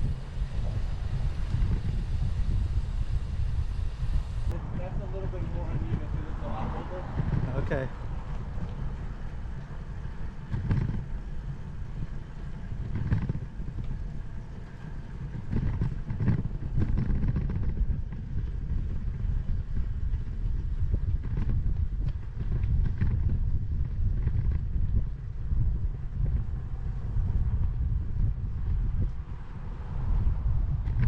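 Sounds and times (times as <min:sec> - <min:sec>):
bicycle tyre rumble: 0:00.0 - 0:31.0
wind buffeting microphone: 0:00.0 - 0:31.0.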